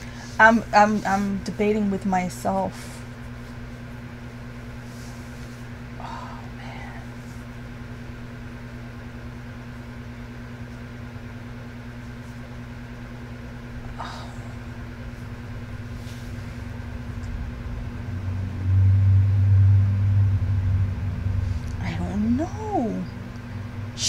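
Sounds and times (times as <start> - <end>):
steady low hum: 0.0 - 24.0
loud low hum: 2.8 - 24.0.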